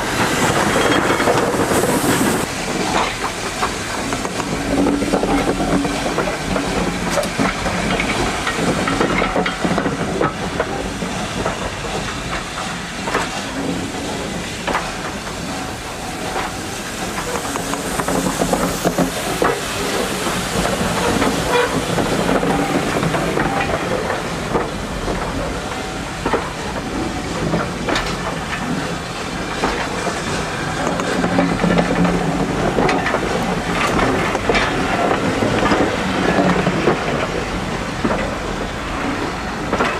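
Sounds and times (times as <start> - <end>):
steam hissing: 0.0 - 39.8
carriage wheels clattering over rail joints: 0.0 - 39.9
steam locomotive passing: 0.0 - 39.9.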